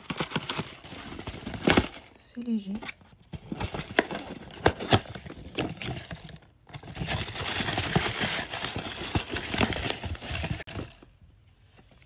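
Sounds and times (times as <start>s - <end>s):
paper packing crinkling: 0.0s - 2.2s, 3.4s - 11.0s.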